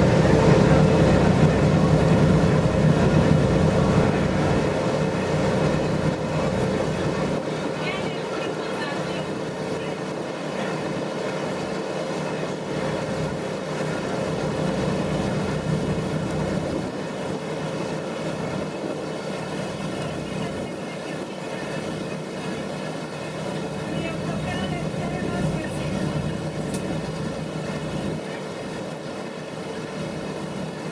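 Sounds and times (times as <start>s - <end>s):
boat engine droning: 0.0s - 30.9s.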